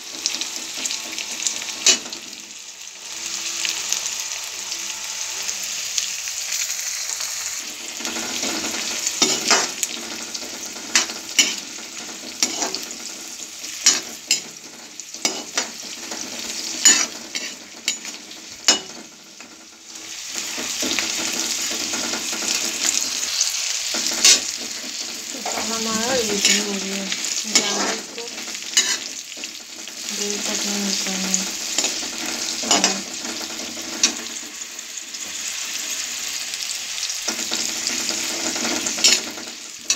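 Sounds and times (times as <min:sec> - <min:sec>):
spices sizzling in hot oil: 0:00.0 - 0:39.9
steel ladle scraping pan: 0:07.1 - 0:36.6, 0:37.2 - 0:39.9.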